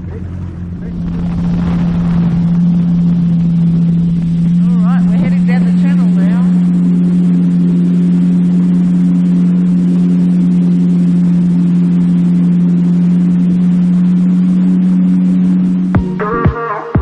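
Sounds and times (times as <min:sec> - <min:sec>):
jet ski engine droning: 0:00.0 - 0:17.0.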